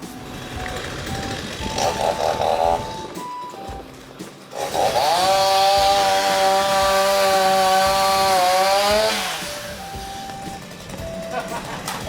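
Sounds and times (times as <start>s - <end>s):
chainsaw revving: 0.0s - 3.1s, 4.1s - 12.0s.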